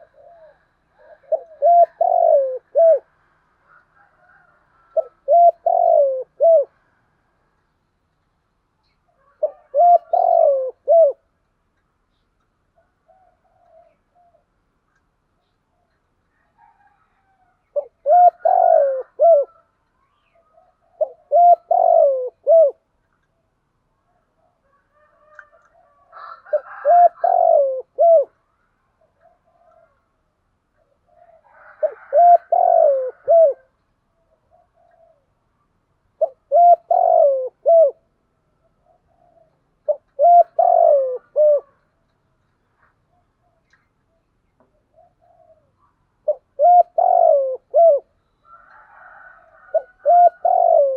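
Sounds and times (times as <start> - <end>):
dove cooing: 0.0 - 7.0, 9.1 - 11.3, 12.8 - 14.6, 15.8 - 22.9, 24.1 - 28.4, 29.0 - 30.2, 30.8 - 35.5, 36.1 - 42.1, 42.7 - 50.9.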